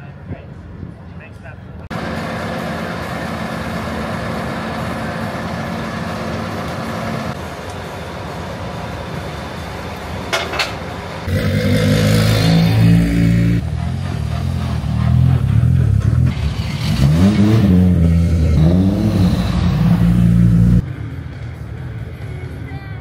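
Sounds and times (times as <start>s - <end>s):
steady engine drone: 1.7s - 23.0s.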